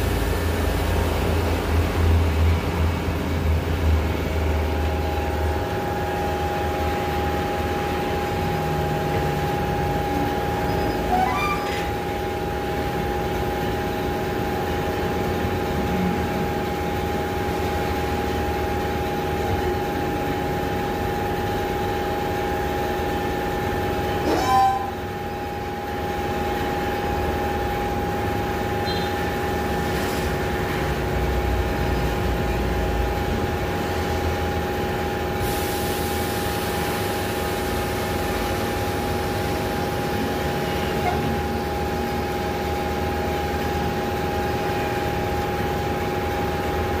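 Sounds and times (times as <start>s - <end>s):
steady machine hum: 0.0s - 47.0s.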